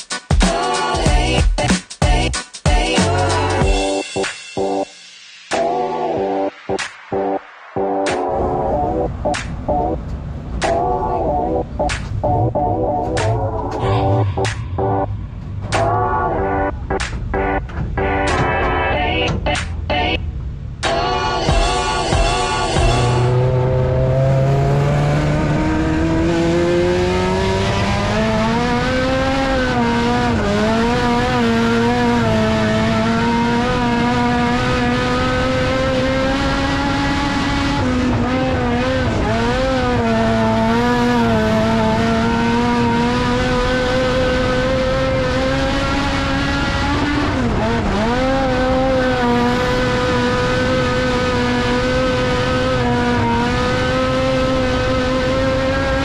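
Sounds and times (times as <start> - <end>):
race car engine: 6.2 - 56.0.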